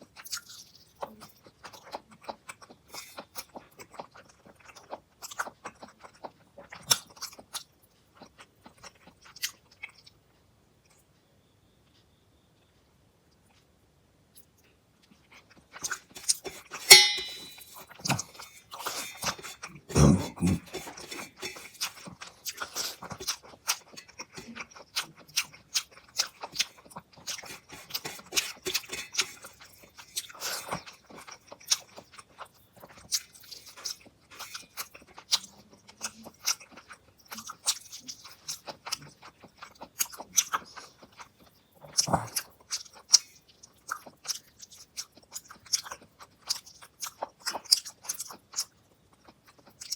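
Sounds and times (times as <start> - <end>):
wet chewing mouth clicks: 0.1 - 10.2, 14.4 - 49.9.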